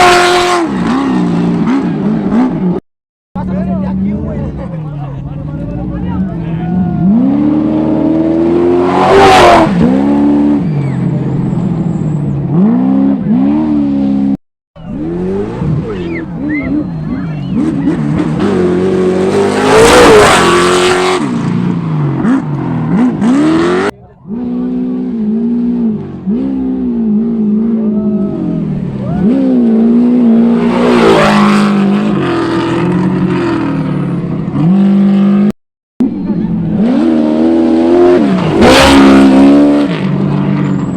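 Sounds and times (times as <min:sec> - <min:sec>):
buggy engine revving hard: 0:00.0 - 0:02.8, 0:05.6 - 0:40.9.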